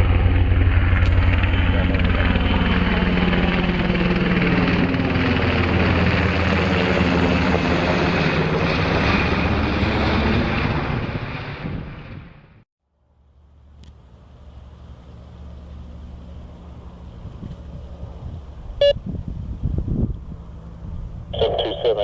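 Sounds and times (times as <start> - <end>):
military aircraft flying low: 0.0 - 12.6, 13.2 - 22.0.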